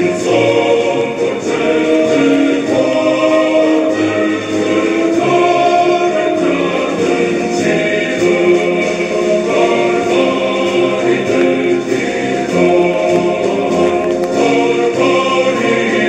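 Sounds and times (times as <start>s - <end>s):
choir chanting: 0.0s - 16.0s.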